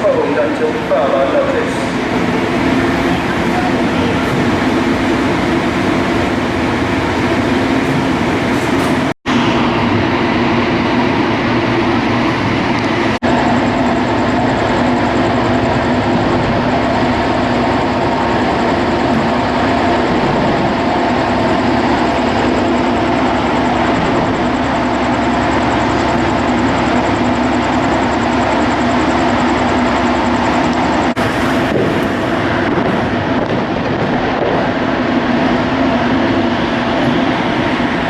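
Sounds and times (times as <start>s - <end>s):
loud rumbling with low hum: 0.0s - 38.0s.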